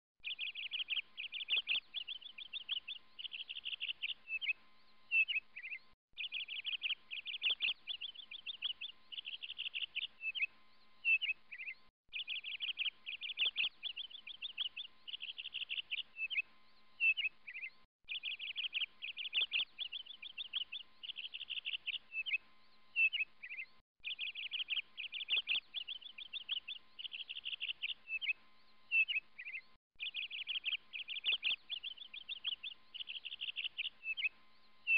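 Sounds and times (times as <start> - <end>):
songbird chirping and trilling: 0.2 - 34.9.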